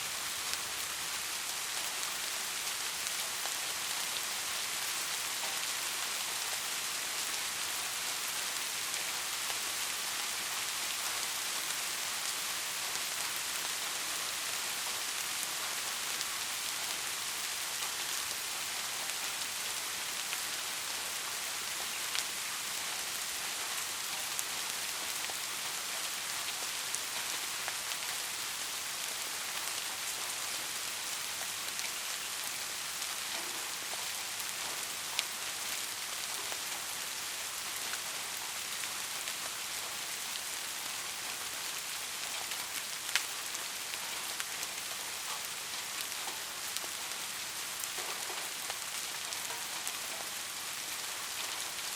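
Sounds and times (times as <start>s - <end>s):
soft rain hiss: 0.0s - 51.9s.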